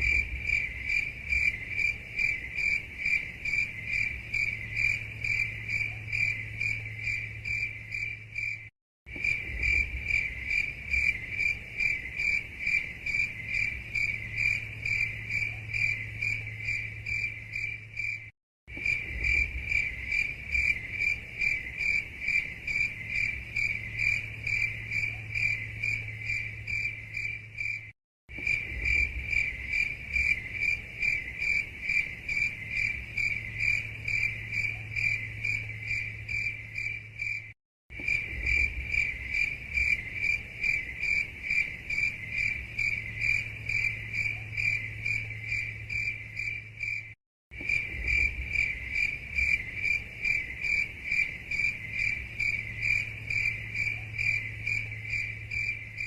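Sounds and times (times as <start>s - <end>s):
cricket chirping trill: 0.0s - 56.0s.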